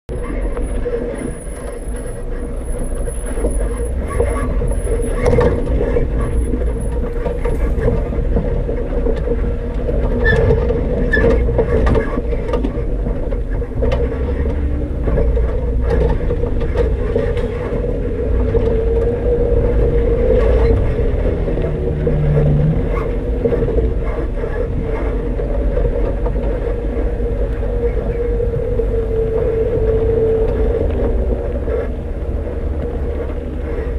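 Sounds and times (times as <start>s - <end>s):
vehicle engine drone: 0.1s - 33.9s.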